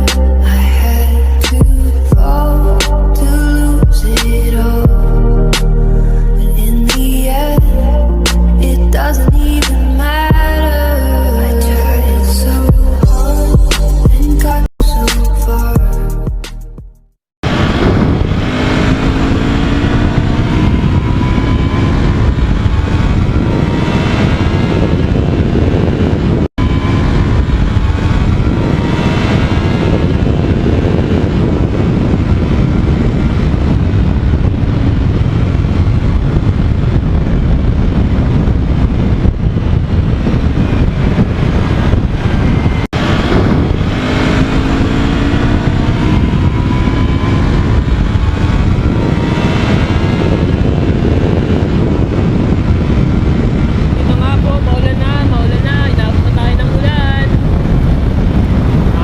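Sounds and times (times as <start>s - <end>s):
wind on microphone: 0.0s - 15.1s, 17.4s - 59.0s
motorcycle engine running: 0.0s - 16.5s, 17.4s - 59.0s.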